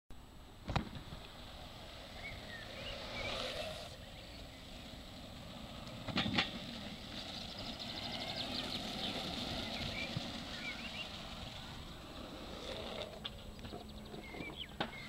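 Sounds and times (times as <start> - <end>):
skateboard wheels rolling on asphalt: 0.3 - 15.0.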